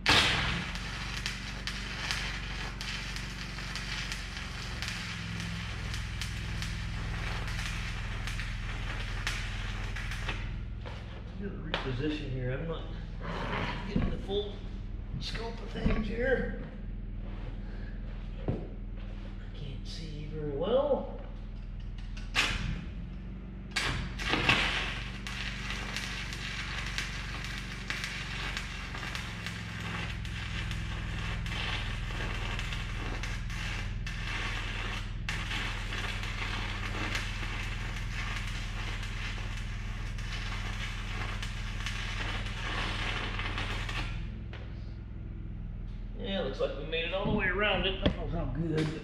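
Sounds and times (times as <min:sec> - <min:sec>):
welding arc crackling: 0:00.0 - 0:16.6, 0:21.4 - 0:44.6
steady low hum: 0:00.0 - 0:49.0.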